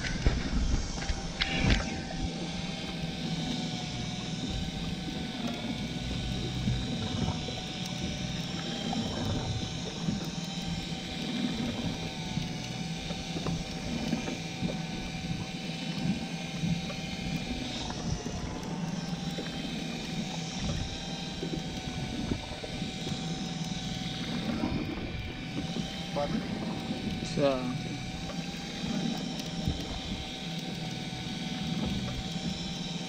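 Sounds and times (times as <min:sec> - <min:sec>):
boat engine hum: 0:00.0 - 0:33.0
electric fishing reel whine: 0:00.0 - 0:33.0.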